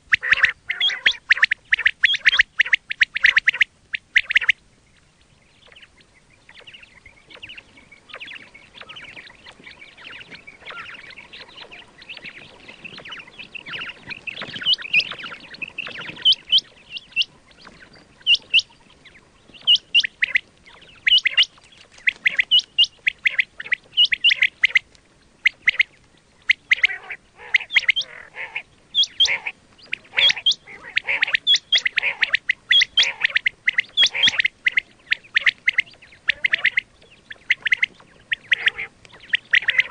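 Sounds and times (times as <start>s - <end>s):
quail chirping calls: 0.0s - 39.9s.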